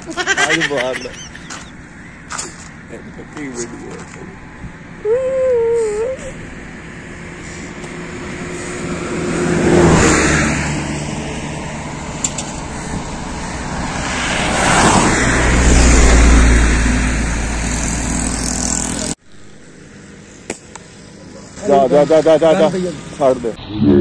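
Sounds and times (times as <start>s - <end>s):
vehicles passing on highway: 0.0s - 23.6s
heavy vehicle low rumble: 1.3s - 21.5s.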